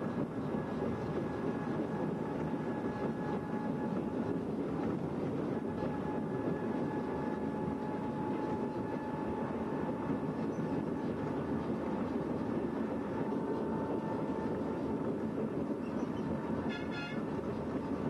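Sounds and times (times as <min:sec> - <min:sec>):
rail trolley engine and wheels: 0:00.0 - 0:18.0.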